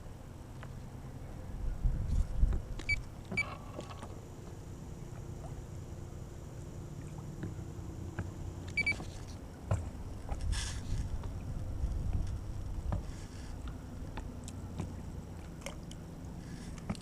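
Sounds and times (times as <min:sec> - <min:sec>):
boat engine hum: 0:00.0 - 0:17.0.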